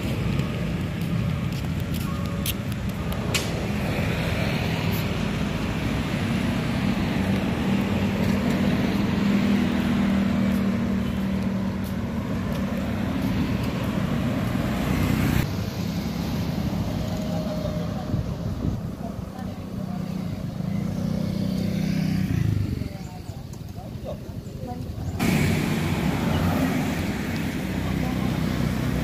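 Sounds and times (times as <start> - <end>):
road traffic with engine drone: 0.0 - 29.0.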